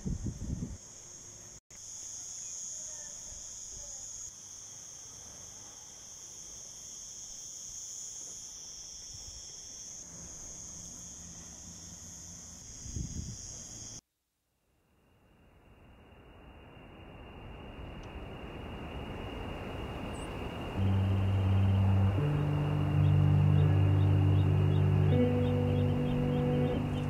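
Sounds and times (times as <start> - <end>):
insects chirring: 0.0 - 14.0, 14.9 - 27.0.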